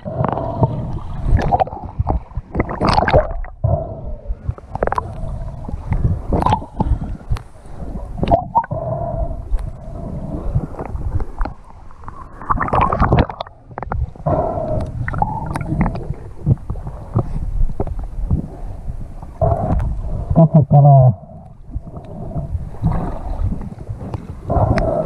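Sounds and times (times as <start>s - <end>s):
low underwater rumble: 0.0s - 25.0s
underwater gurgling and sloshing: 0.0s - 25.0s.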